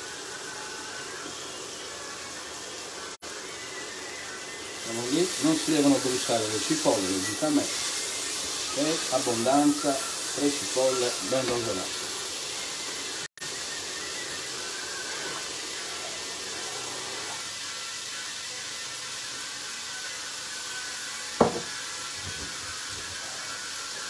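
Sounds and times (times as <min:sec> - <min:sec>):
onions sizzling in oil: 0:00.0 - 0:24.0.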